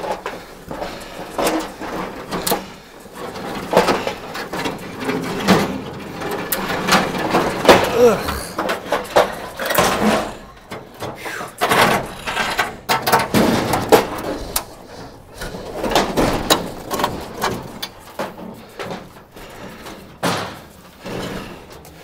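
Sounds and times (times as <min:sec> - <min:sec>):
metal panels clanking and scraping: 0:00.0 - 0:07.9, 0:08.5 - 0:22.0.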